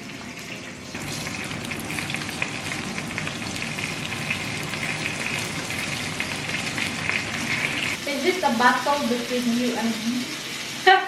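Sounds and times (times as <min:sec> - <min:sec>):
meat sizzling in a pan: 0:01.0 - 0:11.0.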